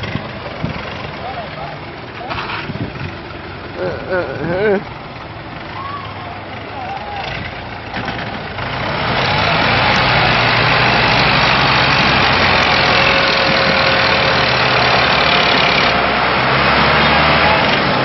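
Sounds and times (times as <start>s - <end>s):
diesel tractor engines running hard: 0.0s - 18.0s.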